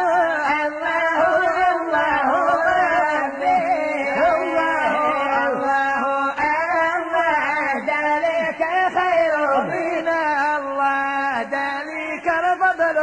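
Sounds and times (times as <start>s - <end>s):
devotional song: 0.0s - 13.0s.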